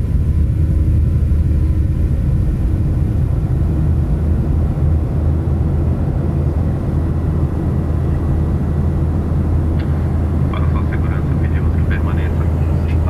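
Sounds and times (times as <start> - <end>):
faint steady whine: 0.0 - 13.0
jet engine rumble in cabin: 0.0 - 13.0.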